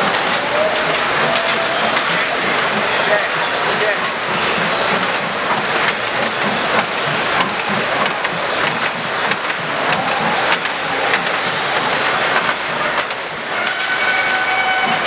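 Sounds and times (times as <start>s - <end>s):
din of a busy hall: 0.0s - 15.0s
model trains running on track: 0.0s - 15.0s.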